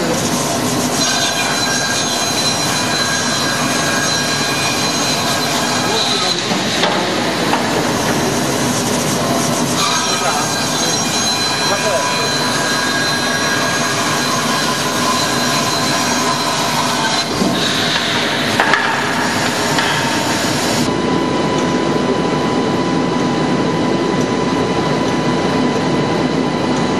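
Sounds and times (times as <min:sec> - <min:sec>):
band saw whirring: 0:00.0 - 0:26.9.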